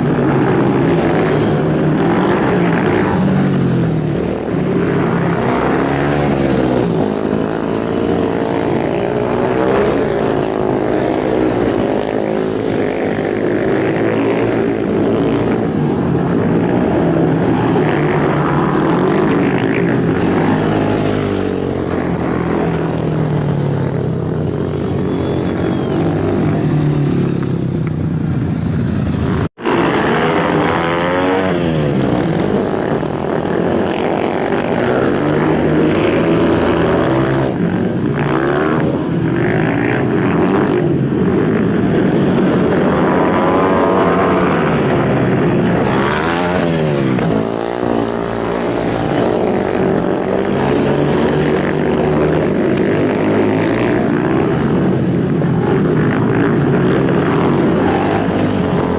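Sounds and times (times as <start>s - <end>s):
motorcycle engines revving: 0.0s - 58.9s.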